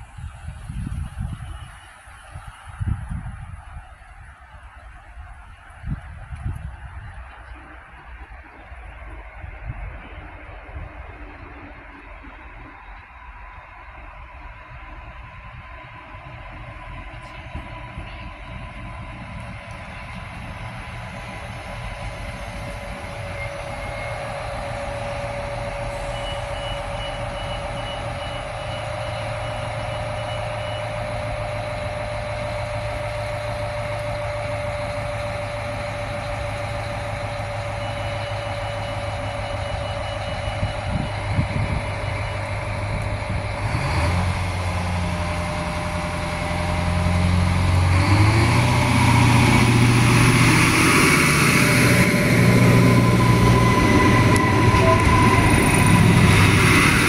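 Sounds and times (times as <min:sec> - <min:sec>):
diesel railcar engine: 0:00.0 - 0:57.0.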